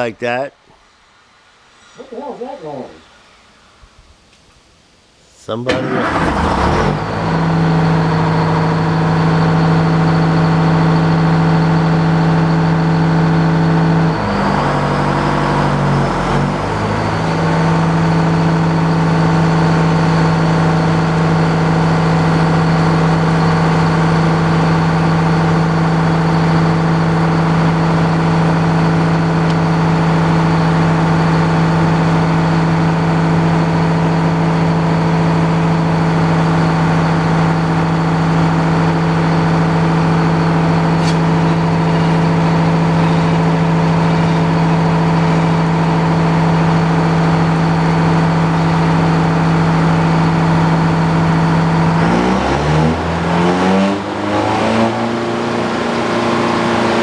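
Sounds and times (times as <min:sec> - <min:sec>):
sawmill engine running loudly: 0:05.7 - 0:57.0.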